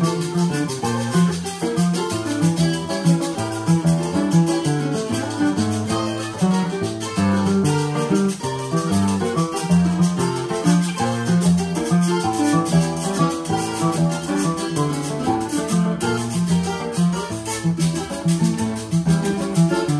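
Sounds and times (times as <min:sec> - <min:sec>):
maracas shaking: 0:00.0 - 0:19.9
plucked strings instrumental tune: 0:00.0 - 0:19.9.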